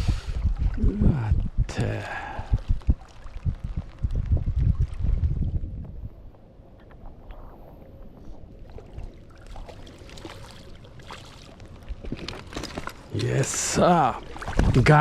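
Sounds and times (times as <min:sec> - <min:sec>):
water sloshing: 0:02.2 - 0:15.0.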